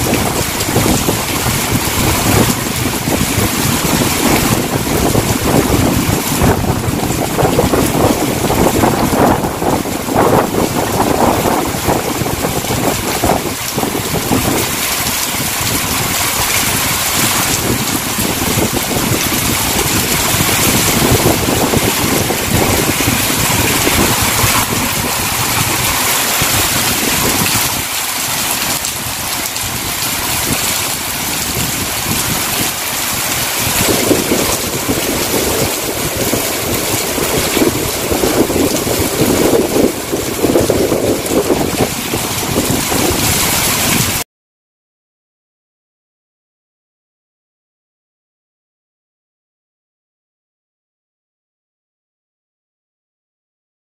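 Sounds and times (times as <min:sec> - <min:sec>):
wind buffeting microphone: 0:00.0 - 0:44.2
heavy rain pouring: 0:00.0 - 0:44.3.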